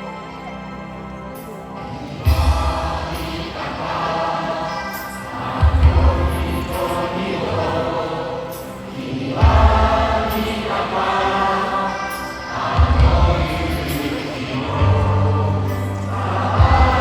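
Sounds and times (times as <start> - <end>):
crowd singing a chant: 1.5 - 17.0.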